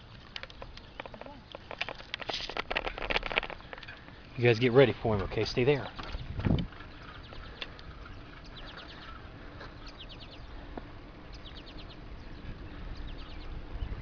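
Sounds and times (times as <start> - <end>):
songbird singing: 0.0 - 14.0
steady background hiss: 0.0 - 14.0.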